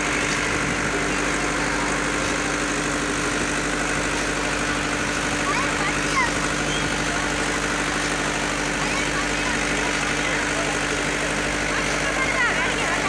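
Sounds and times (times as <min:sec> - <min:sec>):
motor droning: 0:00.0 - 0:13.0.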